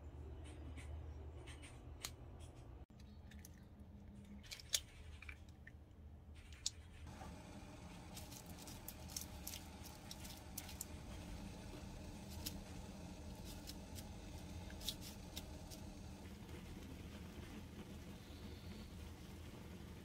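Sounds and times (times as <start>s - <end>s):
low steady hum: 2.2s - 20.0s.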